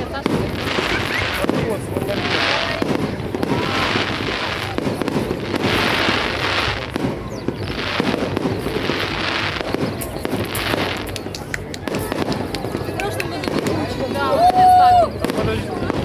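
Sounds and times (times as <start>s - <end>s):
crackling hiss of fireworks: 0.0s - 16.0s
fireworks bangs and crackling: 0.0s - 16.0s.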